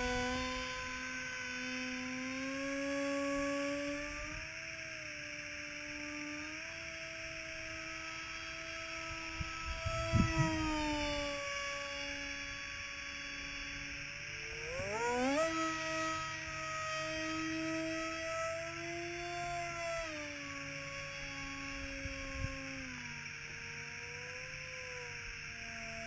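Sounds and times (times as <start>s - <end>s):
electric model plane motor whine: 0.0s - 26.0s.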